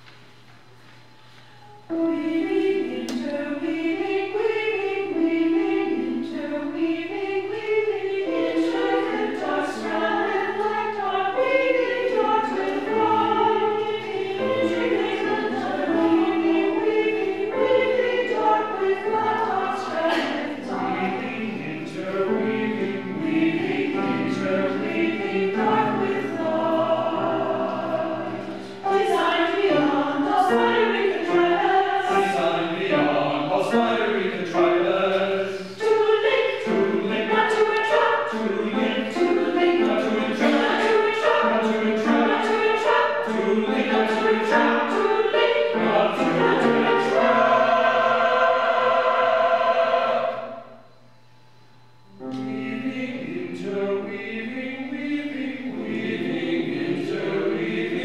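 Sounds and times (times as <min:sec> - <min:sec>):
mixed choir singing: 0:01.9 - 0:51.0, 0:52.2 - 0:58.0.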